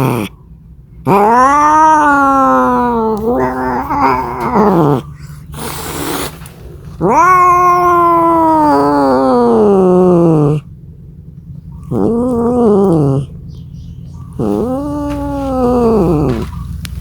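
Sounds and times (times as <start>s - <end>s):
cat yowling: 0.0s - 0.3s, 1.1s - 10.7s, 11.8s - 13.4s, 14.2s - 17.0s.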